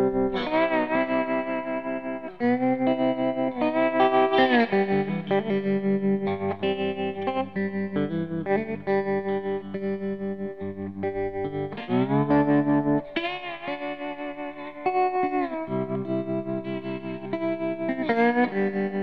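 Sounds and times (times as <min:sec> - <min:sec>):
electric guitar with effects: 0:00.0 - 0:19.0.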